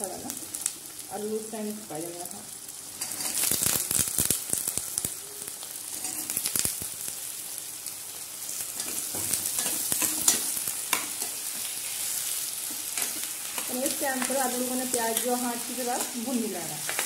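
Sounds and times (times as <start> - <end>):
potatoes sizzling in oil: 0.0 - 17.0.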